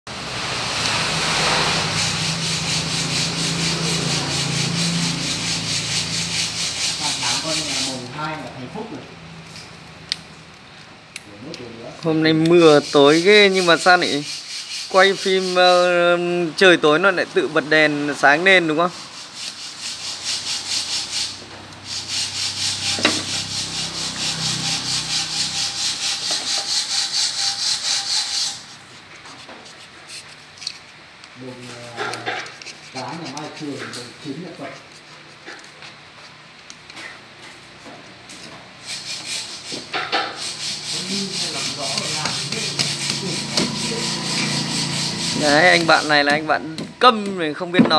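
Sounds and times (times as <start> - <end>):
rhythmic scraping: 0.9 - 9.7, 12.1 - 16.8, 18.1 - 30.8, 31.4 - 35.8, 38.8 - 47.9.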